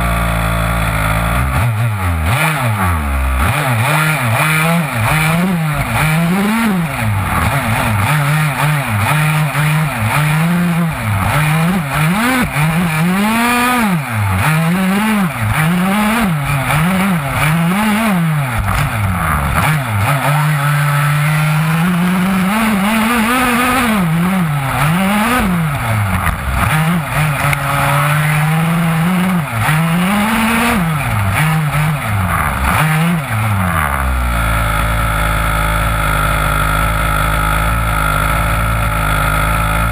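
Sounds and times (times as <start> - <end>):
rc car engine revving: 0.0 - 39.9.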